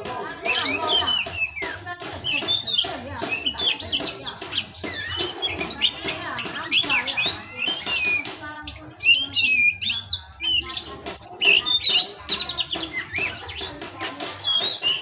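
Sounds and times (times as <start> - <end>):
bird singing whistles and chatter: 0.0 - 15.0.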